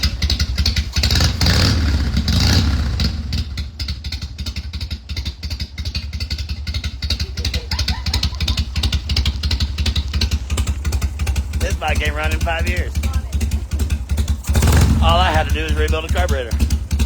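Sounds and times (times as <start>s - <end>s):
motorcycle engine idling: 0.0s - 17.0s
motorcycle engine revving: 0.0s - 17.0s.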